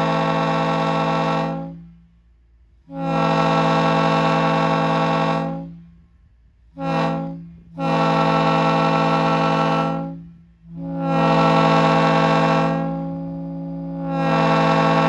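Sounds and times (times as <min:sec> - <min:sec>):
locomotive air horn blasts: 0:00.0 - 0:15.0.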